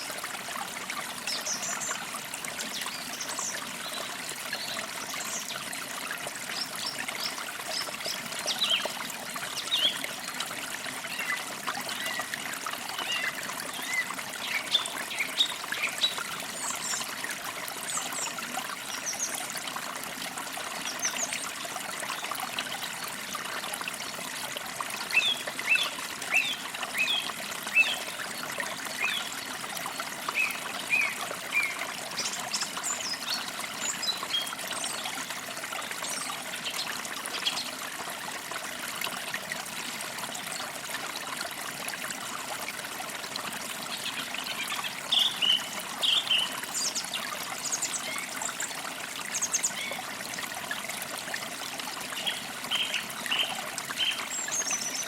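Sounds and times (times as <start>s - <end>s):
creek trickling: 0.0s - 55.0s.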